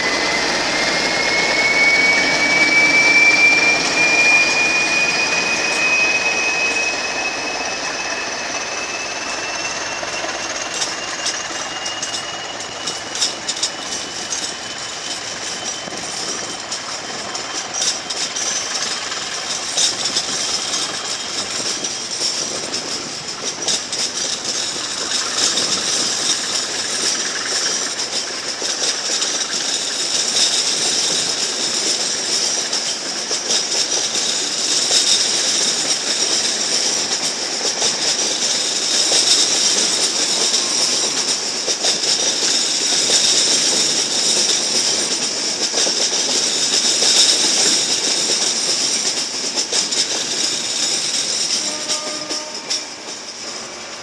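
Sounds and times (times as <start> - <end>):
high-pitched wheel squeal: 0.0 - 49.2, 49.8 - 54.0
train wheels clattering: 0.0 - 54.0.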